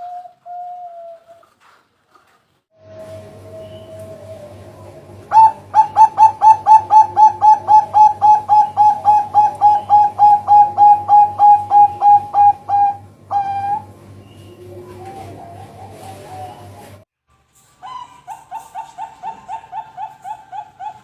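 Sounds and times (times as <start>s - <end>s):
dove cooing: 0.0s - 1.6s, 2.9s - 17.0s, 17.8s - 21.0s
low steady hum: 2.8s - 21.0s.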